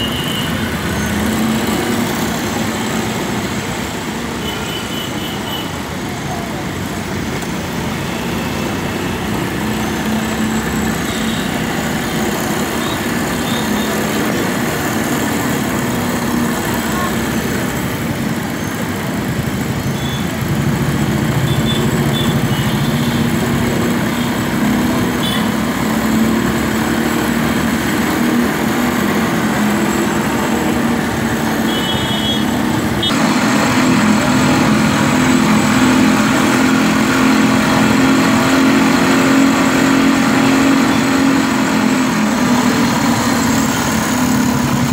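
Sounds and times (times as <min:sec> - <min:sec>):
street traffic noise: 0:00.0 - 0:44.9.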